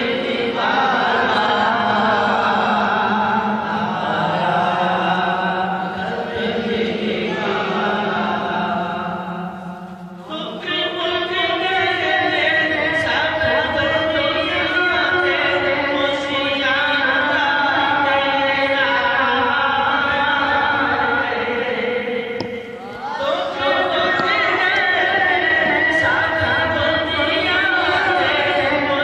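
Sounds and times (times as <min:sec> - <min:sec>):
man singing hymn unaccompanied: 0:00.0 - 0:29.0.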